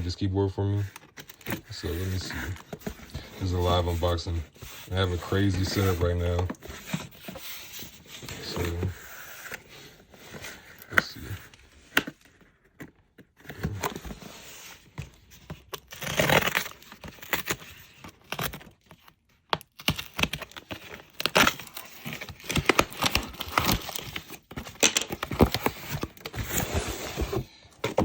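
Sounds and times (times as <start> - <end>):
cardboard packaging rustling and tearing: 0.0 - 28.0.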